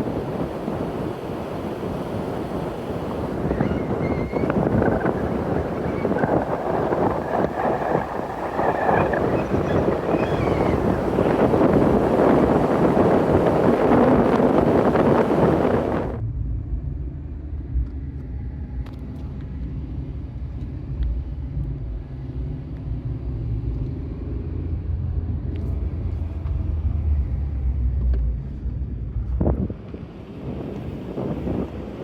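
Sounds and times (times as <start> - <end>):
car engine rumble: 0.0 - 32.0.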